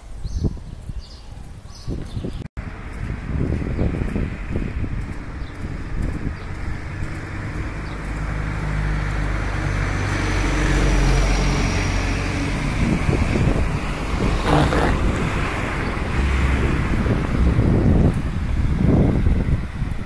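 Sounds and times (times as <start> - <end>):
vehicle engine hum with road noise: 2.0 - 20.0.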